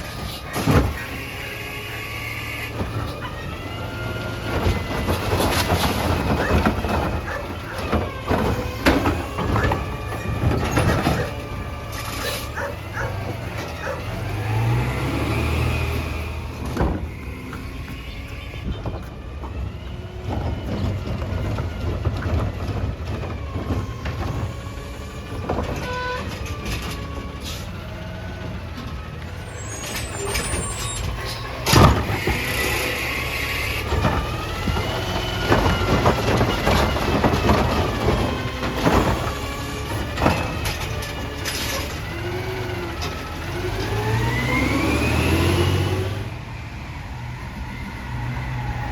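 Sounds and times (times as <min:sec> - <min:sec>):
garbage truck engine running: 0:00.0 - 0:48.9.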